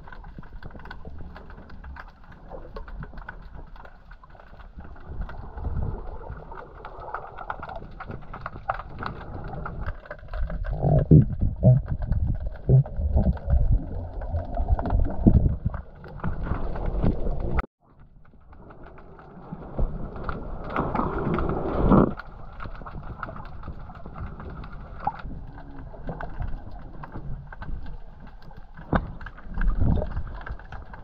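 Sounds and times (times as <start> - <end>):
muffled underwater water swirling: 0.0 - 31.0.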